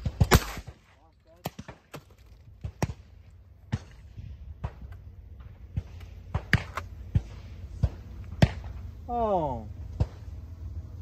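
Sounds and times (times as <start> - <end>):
distant shotgun shots: 0.0 - 8.8, 9.9 - 10.3
steady low rumble: 0.0 - 11.0.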